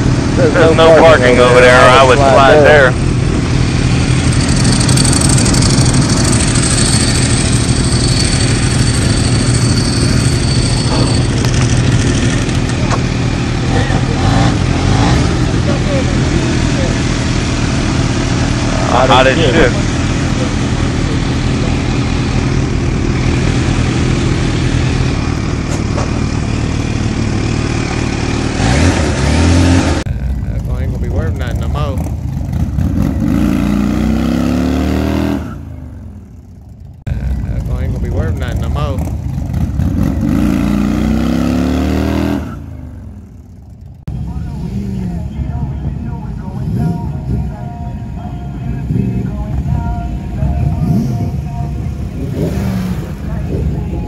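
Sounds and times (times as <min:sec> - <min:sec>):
motorcycle engine idling: 0:00.0 - 0:28.5, 0:30.0 - 0:33.7, 0:35.6 - 0:40.6, 0:42.6 - 0:52.3.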